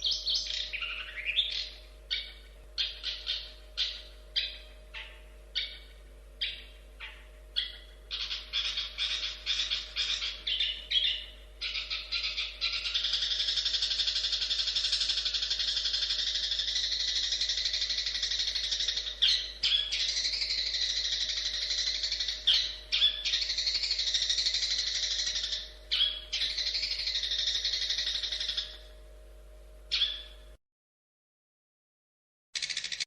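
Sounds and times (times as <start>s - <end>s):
bird chattering song: 0.0s - 29.0s, 29.9s - 30.6s, 32.6s - 33.0s.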